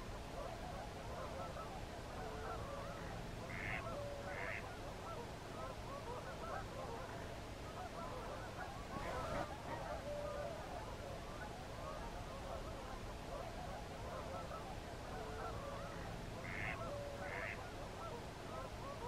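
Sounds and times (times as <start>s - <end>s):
waterfowl flock calling: 0.4s - 19.0s.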